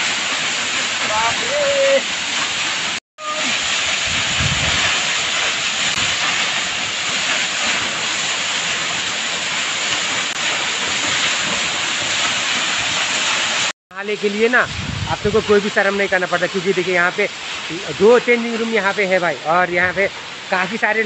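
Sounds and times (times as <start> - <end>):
waterfall pouring onto rocks: 0.0 - 21.0.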